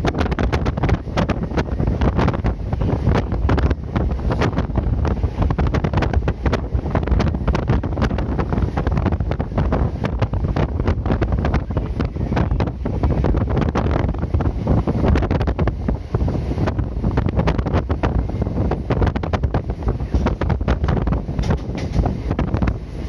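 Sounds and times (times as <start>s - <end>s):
clatter of train wheels: 0.0s - 23.0s
train rumble: 0.0s - 23.0s
wind buffeting microphone: 0.0s - 23.0s.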